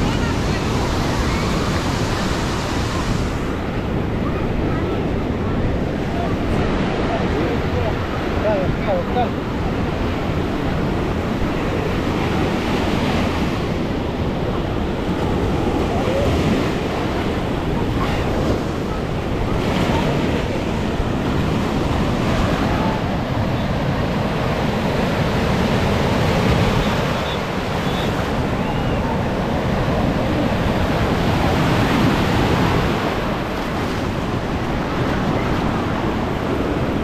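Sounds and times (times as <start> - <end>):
ocean surf breaking: 0.0 - 37.0.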